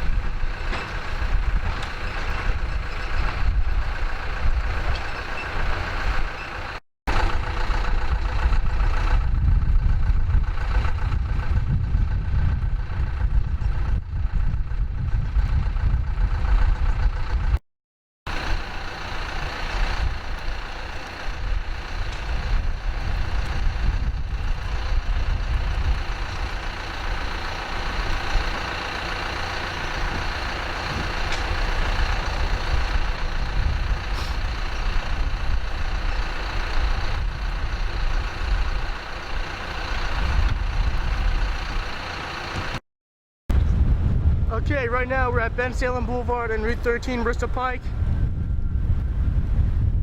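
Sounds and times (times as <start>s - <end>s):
vehicle engine running: 0.0s - 17.6s, 18.3s - 42.8s, 43.5s - 50.0s.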